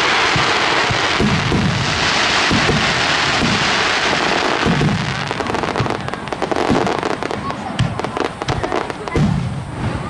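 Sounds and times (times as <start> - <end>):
hiss of sparks: 0.0 - 9.9
fireworks booming: 0.0 - 10.0.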